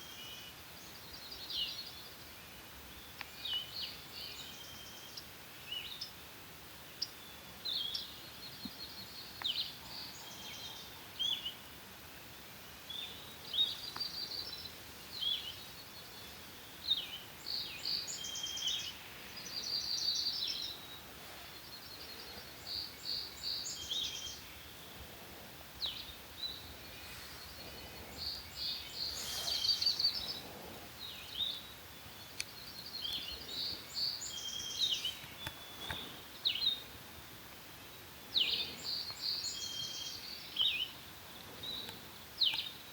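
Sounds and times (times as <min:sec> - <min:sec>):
faint background hiss: 0:00.0 - 0:42.9
songbirds singing: 0:00.0 - 0:42.9.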